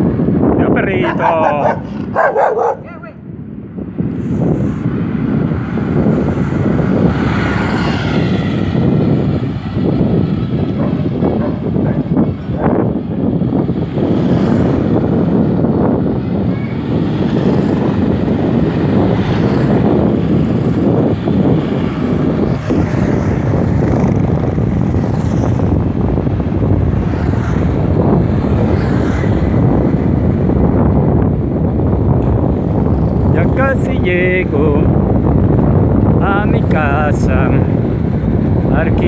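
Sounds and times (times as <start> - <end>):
traffic murmur: 0.0 - 39.0
wind rumble on microphone: 0.0 - 39.0.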